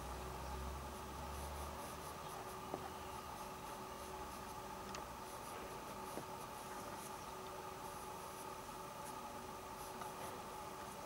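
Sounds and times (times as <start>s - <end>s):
electrical hum: 0.0s - 11.0s
brush scratching on canvas: 1.1s - 11.0s.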